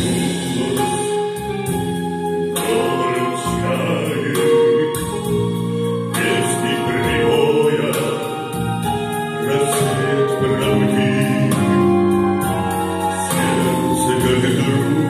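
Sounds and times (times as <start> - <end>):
man singing into microphone: 0.0 - 1.7, 2.5 - 15.0
backing track of held chords: 0.0 - 15.0.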